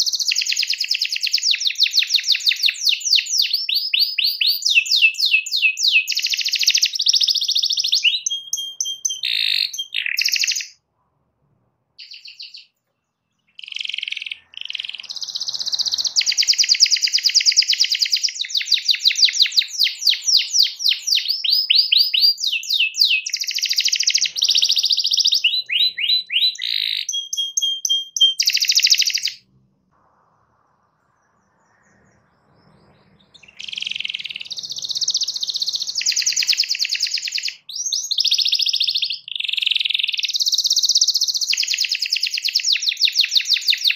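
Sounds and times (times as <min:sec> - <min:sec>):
canary singing trills: 0:00.0 - 0:10.8, 0:12.0 - 0:29.5, 0:30.5 - 0:43.9.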